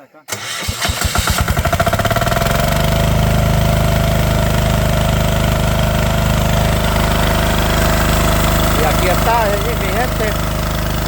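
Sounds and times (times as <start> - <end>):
diesel water pump engine: 0.3 - 11.0.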